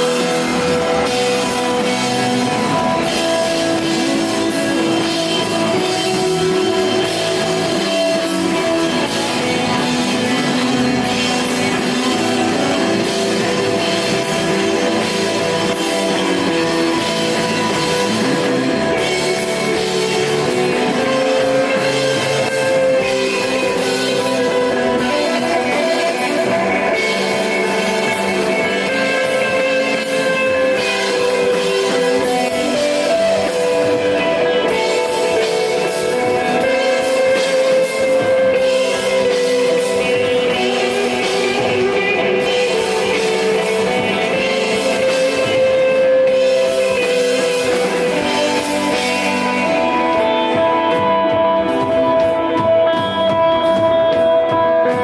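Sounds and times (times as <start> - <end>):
bass: 0.0 - 55.0
drum kit with cymbals: 0.0 - 55.0
electric guitar ringing notes: 0.0 - 55.0.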